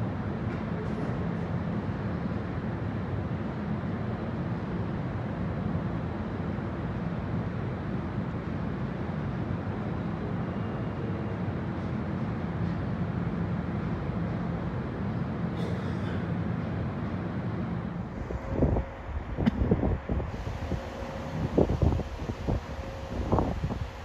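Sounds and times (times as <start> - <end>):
train wheels rumbling in tunnel: 0.0 - 24.0.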